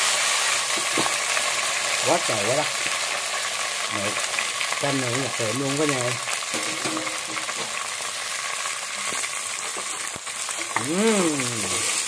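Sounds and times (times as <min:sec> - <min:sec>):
shrimp sizzling in oil: 0:00.0 - 0:12.0.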